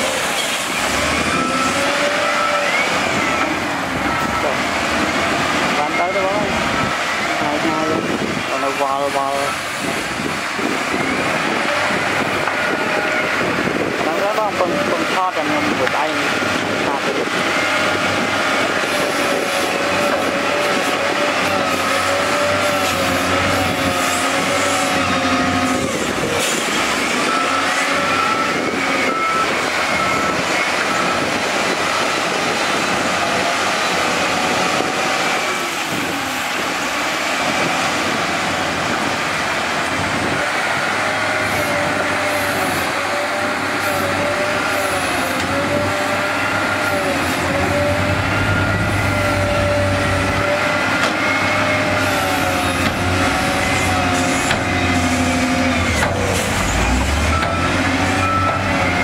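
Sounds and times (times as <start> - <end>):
diesel engines revving under load: 0.0 - 59.0
heavy machinery rumble: 0.0 - 59.0.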